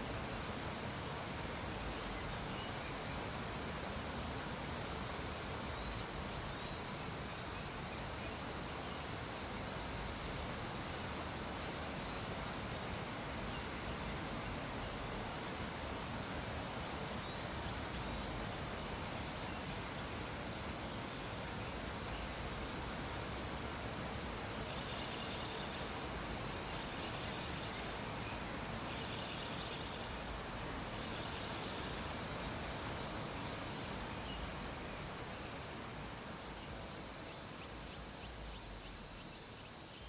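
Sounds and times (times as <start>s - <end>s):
ambient hiss: 0.0s - 40.0s.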